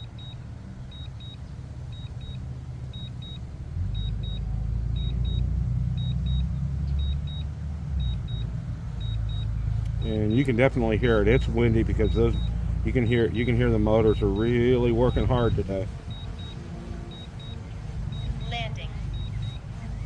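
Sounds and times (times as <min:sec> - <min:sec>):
remote controller beeping: 0:00.0 - 0:05.4, 0:06.0 - 0:06.4, 0:07.0 - 0:20.0
wind rumble on microphone: 0:03.0 - 0:20.0.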